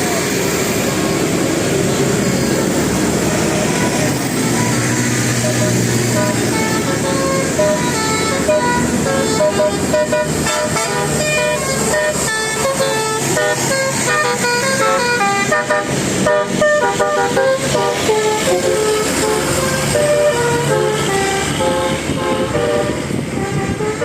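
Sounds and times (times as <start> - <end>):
engine drone: 0.0 - 24.0
bus horn playing fast melody: 3.3 - 24.0.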